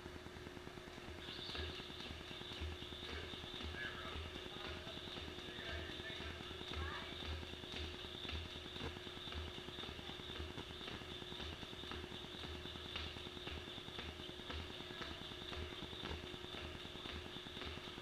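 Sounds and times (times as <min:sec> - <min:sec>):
steady background hum: 0:00.0 - 0:18.0
jump rope ticking: 0:01.0 - 0:18.0.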